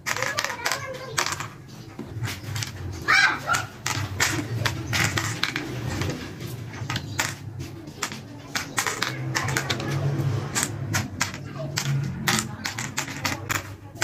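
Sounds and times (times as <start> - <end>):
game pieces clicking on plastic: 0.0 - 14.0.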